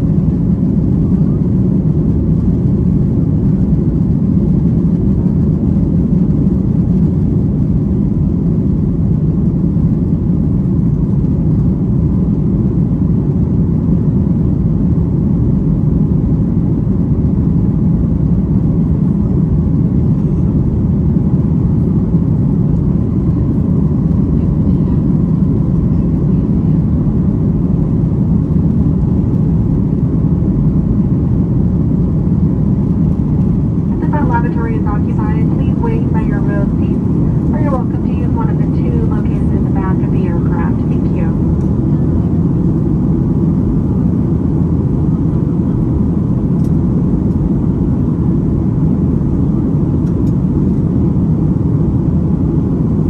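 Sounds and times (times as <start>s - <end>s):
airplane cabin engine roar: 0.0s - 53.0s.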